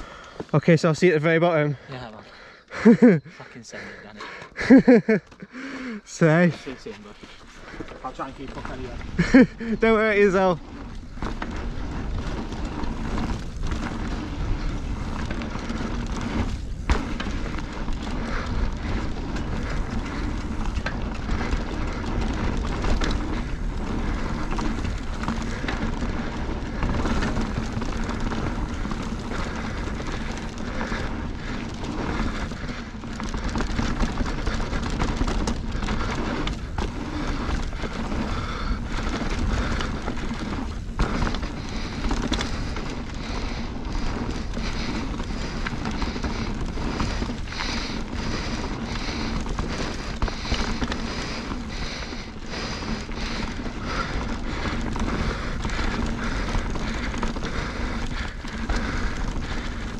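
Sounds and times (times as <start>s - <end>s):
bike tyres rumbling on dirt: 0.0s - 59.9s
bike knocks and rattles: 7.2s - 59.9s.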